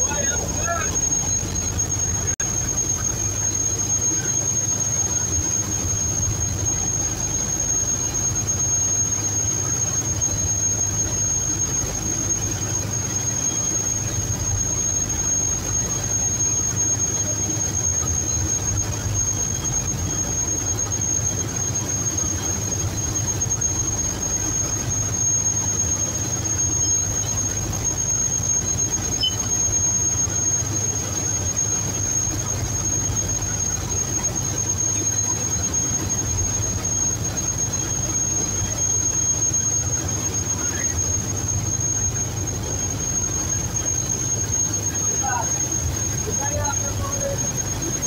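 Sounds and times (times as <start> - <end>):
boat engine humming: 0.0 - 48.0
high-pitched whine: 0.0 - 48.0.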